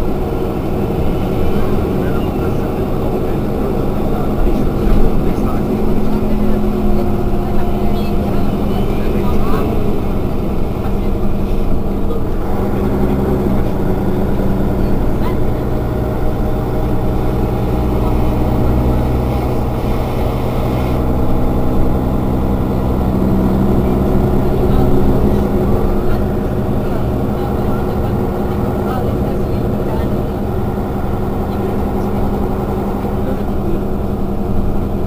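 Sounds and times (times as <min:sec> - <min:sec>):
bus engine idling: 0:00.0 - 0:35.0.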